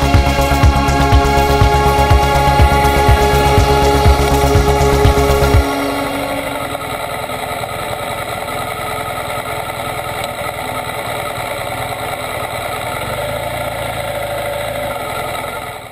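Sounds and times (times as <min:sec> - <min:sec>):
motorcycle engine at low revs: 0:00.0 - 0:15.9.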